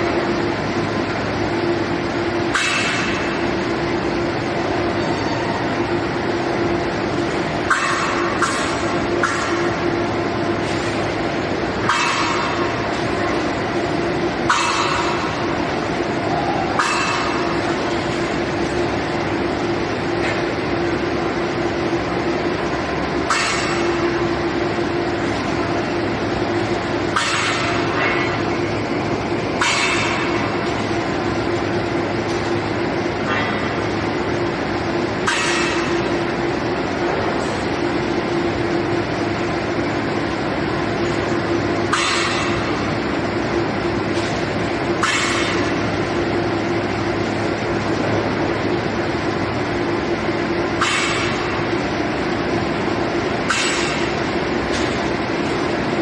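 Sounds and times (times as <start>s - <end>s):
furnace machinery humming: 0.0s - 56.0s.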